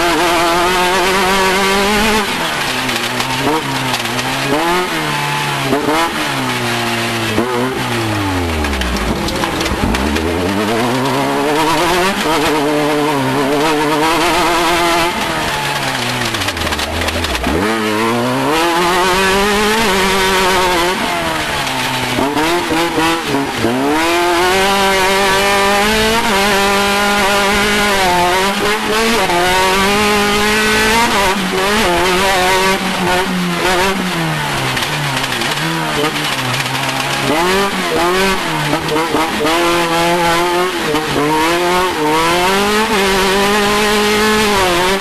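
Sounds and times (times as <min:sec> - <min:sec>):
off-road vehicle engine revving: 0:00.0 - 0:45.0.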